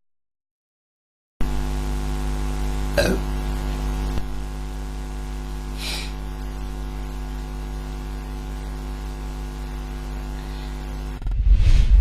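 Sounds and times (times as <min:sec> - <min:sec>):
electrical mains hum: 0:01.4 - 0:11.2.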